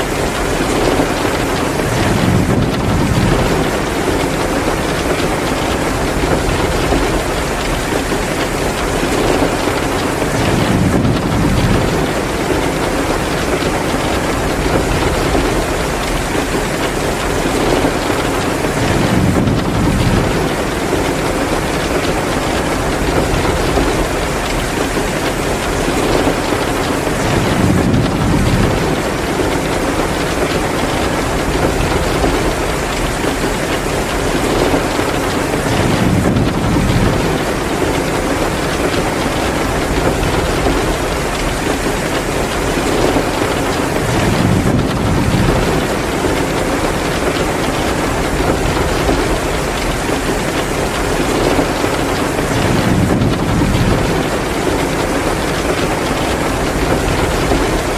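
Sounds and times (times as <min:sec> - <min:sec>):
heavy rain downpour: 0:00.0 - 0:57.9.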